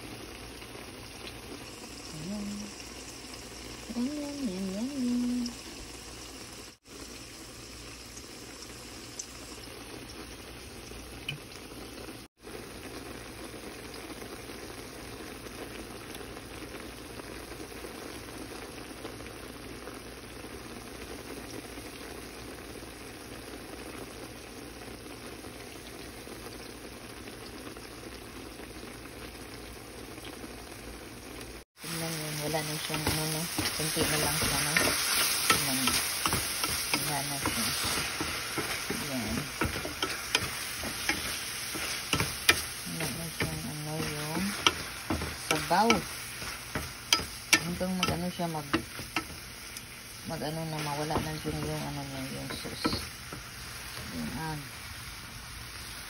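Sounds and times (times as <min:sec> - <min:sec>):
mushrooms and onions bubbling in a skillet: 0:00.0 - 0:56.0.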